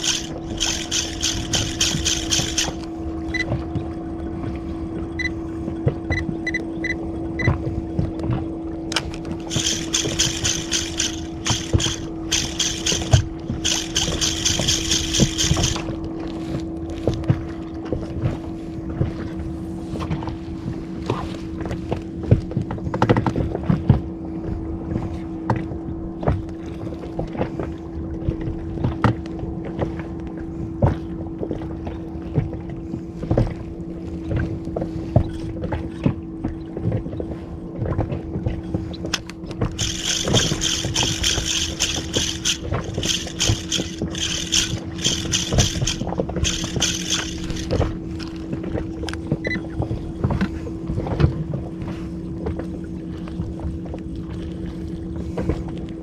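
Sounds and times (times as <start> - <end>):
water slapping against hull: 0.0 - 5.1, 7.4 - 56.0
boat motor hum: 0.0 - 56.0.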